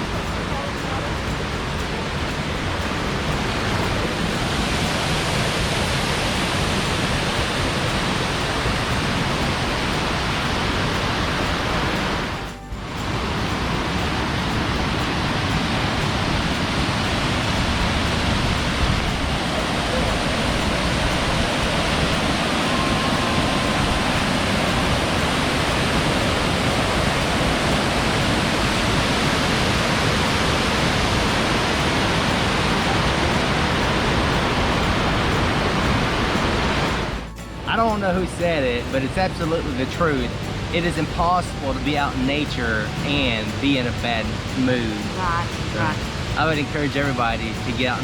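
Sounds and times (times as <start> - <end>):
large waterfall rushing: 0.0 - 48.0.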